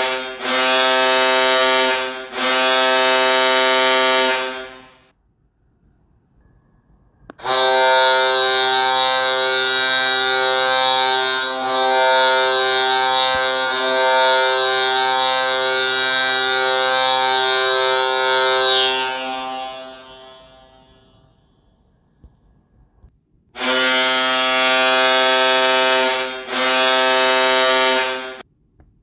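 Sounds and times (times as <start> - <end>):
goal horn blast: 0.0 - 5.0, 7.3 - 21.4, 23.6 - 28.4.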